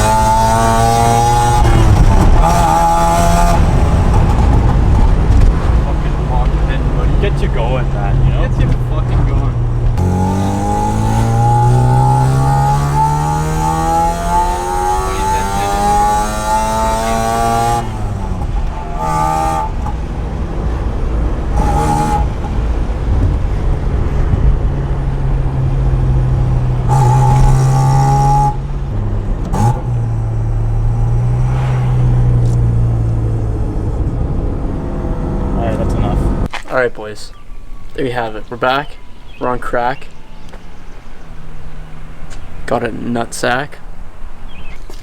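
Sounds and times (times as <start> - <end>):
rotary engine accelerating: 0.0 - 36.5.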